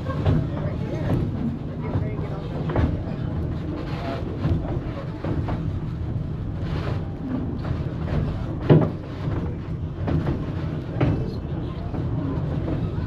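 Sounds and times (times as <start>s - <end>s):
knocks and clanks: 0.0s - 13.0s
railroad car rolling rumble: 0.0s - 13.0s.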